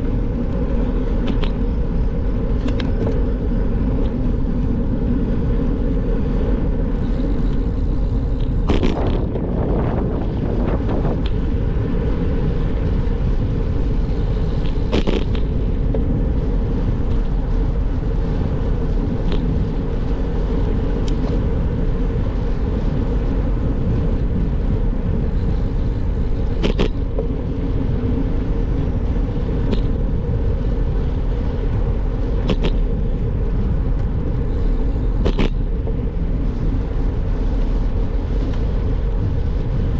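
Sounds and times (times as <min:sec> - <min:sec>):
bicycle road noise: 0:00.0 - 0:39.9
wind buffeting microphone: 0:00.0 - 0:39.9.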